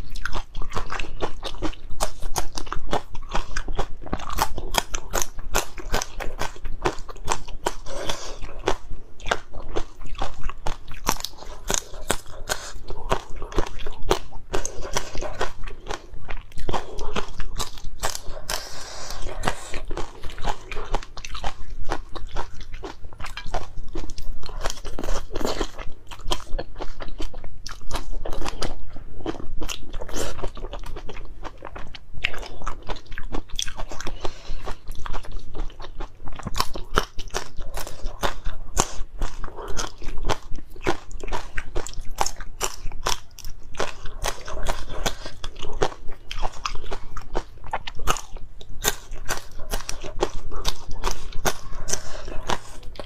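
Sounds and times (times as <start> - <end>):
crunching and chewing peppers: 0.0 - 53.0.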